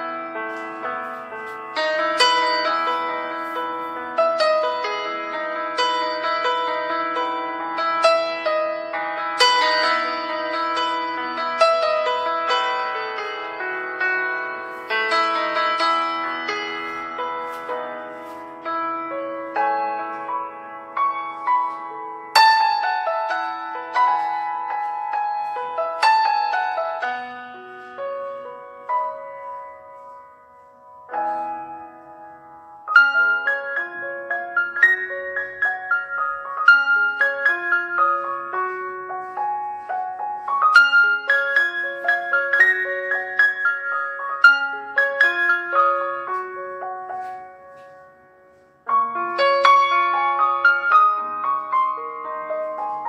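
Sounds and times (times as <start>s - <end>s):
slow piano notes and chords: 0.0s - 53.0s.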